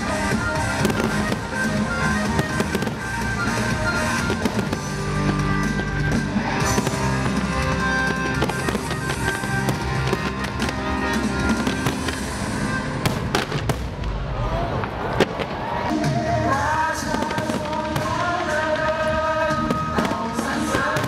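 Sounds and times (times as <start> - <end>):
music with long held notes: 0.0 - 13.6, 15.9 - 21.0
fireworks bursting and crackling: 0.0 - 21.0.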